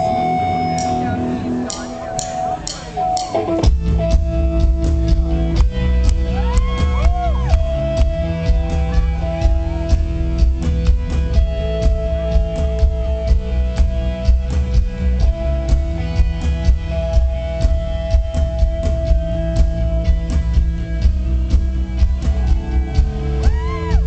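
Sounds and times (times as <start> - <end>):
bending guitar lead line: 0.0 - 24.0
electric guitars playing chords: 0.0 - 24.0
drum beat: 1.7 - 24.0.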